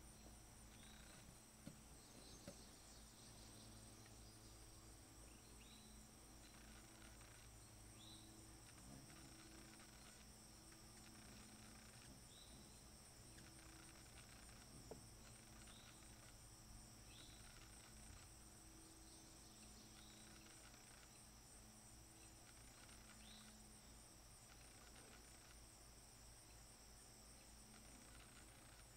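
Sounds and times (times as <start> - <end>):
high-pitched insect chorus: 0.0 - 28.9
short insect chirps: 0.0 - 28.9.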